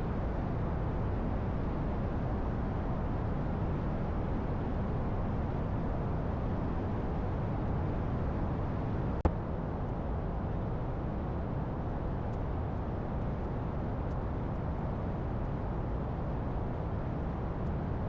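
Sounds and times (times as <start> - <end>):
light aircraft engine and wind: 0.0 - 18.0.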